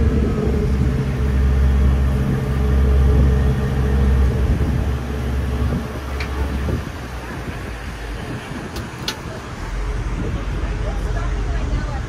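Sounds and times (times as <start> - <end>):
ferry engine droning: 0.0 - 12.0
wind and water rushing: 0.0 - 12.0.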